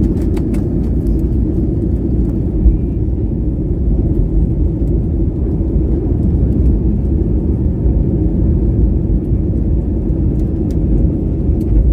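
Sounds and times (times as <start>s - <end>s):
airliner cabin engine rumble: 0.0s - 11.9s.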